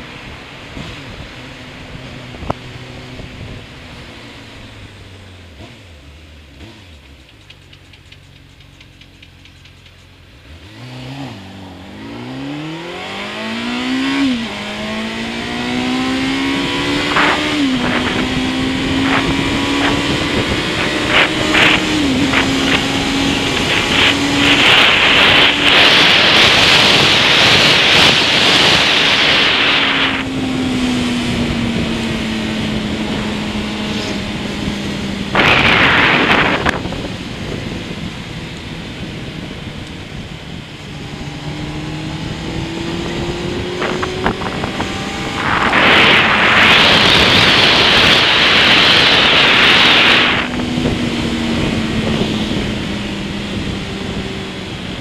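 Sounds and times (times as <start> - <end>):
wind noise on microphone: 0.0 - 3.8, 11.8 - 55.0
motorcycle engine accelerating: 0.0 - 55.0.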